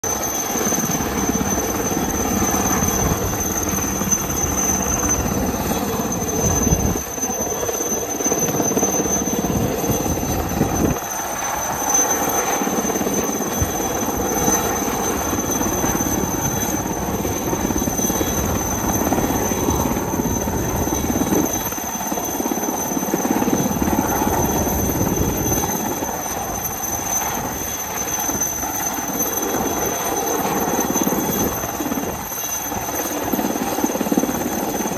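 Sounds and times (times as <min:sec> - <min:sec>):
helicopter rotor with turbine whine: 0:00.0 - 0:34.9.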